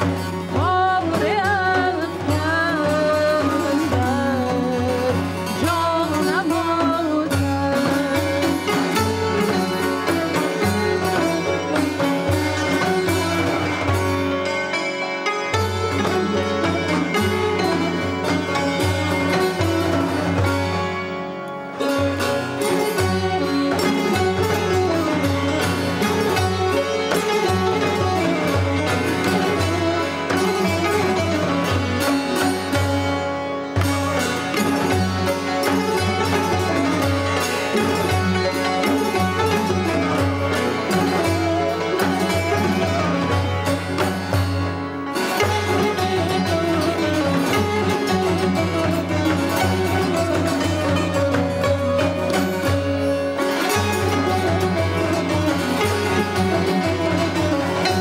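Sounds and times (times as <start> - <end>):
plucked string instruments playing: 0.0 - 58.0.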